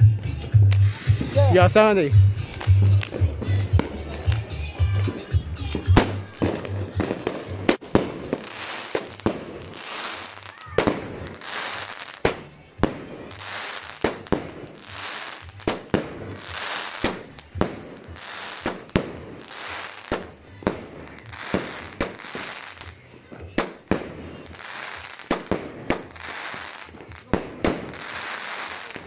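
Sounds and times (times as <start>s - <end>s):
fireworks hissing and crackling: 0.6s - 29.0s
fireworks bangs: 0.7s - 29.0s.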